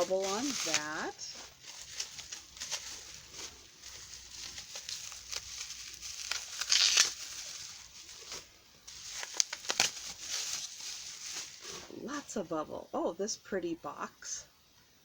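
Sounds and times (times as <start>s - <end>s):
bubble wrap crinkling and crackling: 0.0s - 12.4s.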